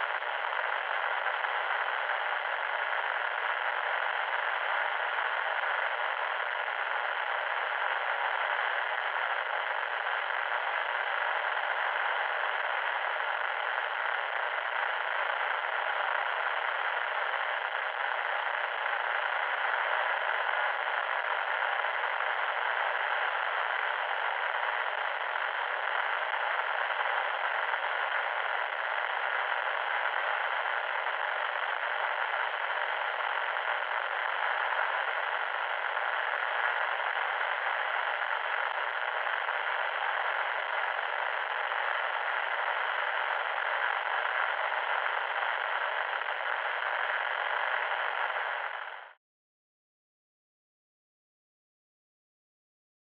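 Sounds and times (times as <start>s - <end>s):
static hiss: 0.0s - 49.2s.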